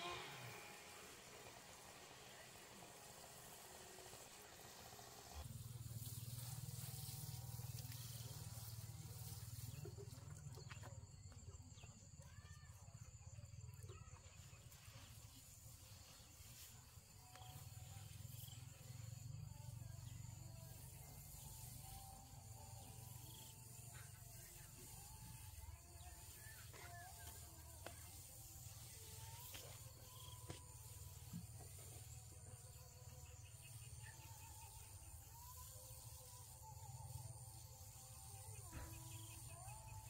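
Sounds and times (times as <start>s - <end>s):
faint chirps: 0.0s - 40.0s.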